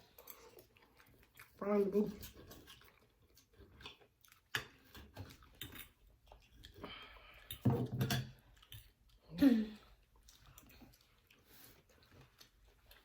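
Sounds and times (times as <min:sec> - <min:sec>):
close chewing and eating: 0:00.0 - 0:13.0.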